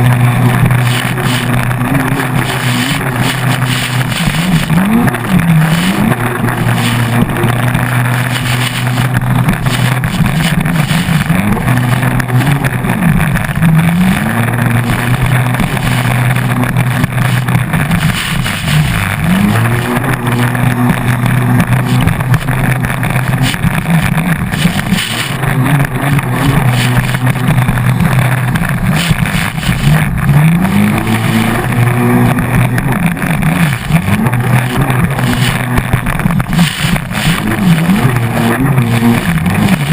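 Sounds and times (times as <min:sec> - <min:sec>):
jet ski engine revving: 0:00.0 - 0:39.9
rush of wind and water: 0:00.0 - 0:39.9.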